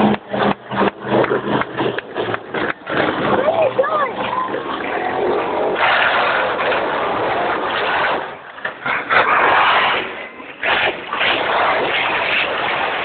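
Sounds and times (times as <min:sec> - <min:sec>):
monster truck engines revving: 0:00.0 - 0:13.0.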